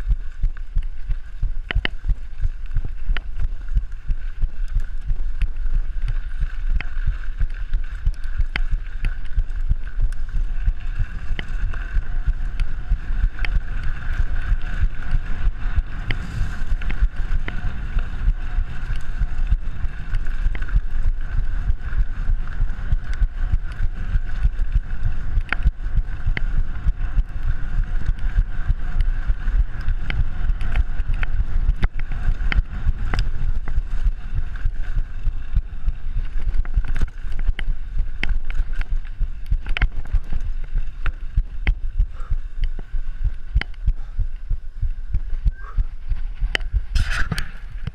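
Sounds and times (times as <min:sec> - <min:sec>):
bike clicks and rattles: 0:00.0 - 0:47.9
wind rushing over microphone: 0:00.0 - 0:47.9.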